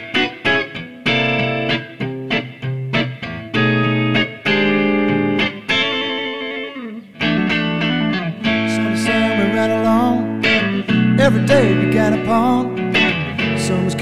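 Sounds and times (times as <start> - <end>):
acoustic guitar strumming: 0.0 - 14.0
wavering high guitar notes: 0.0 - 14.0.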